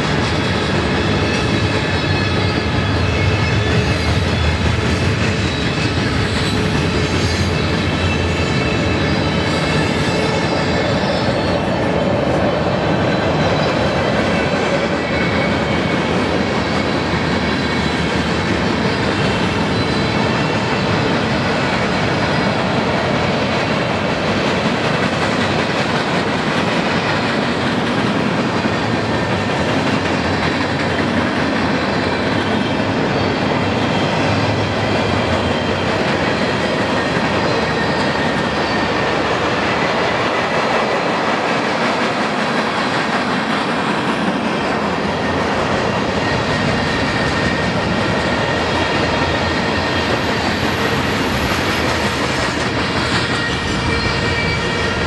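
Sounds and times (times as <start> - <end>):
steel wheels rolling on rails: 0.0 - 55.0.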